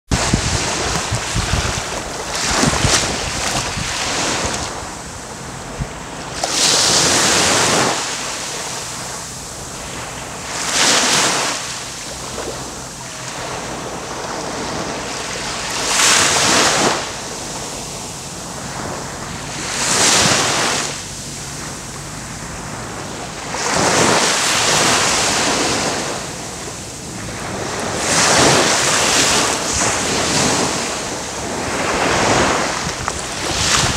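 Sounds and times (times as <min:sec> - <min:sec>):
waves washing up beach: 0:00.1 - 0:33.9.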